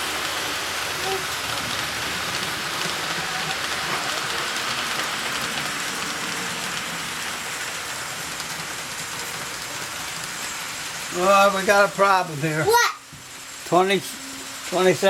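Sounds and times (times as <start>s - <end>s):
model trains rolling on track: 0.0s - 15.0s.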